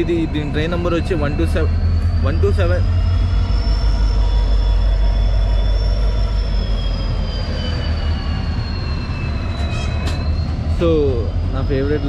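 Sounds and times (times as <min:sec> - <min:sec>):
high-pitched wheel squeal: 0:00.0 - 0:12.0
passenger train rumbling: 0:00.0 - 0:12.0.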